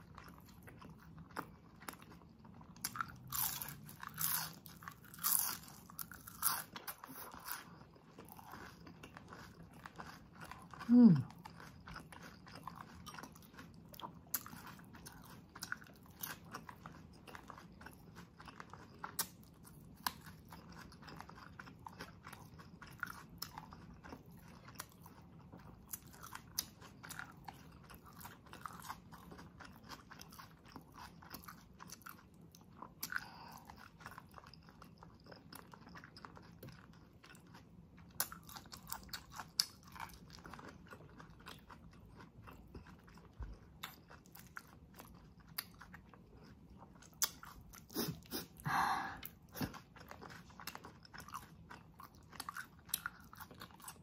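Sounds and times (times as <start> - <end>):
chewing with sharp crunches: 0.0 - 54.0.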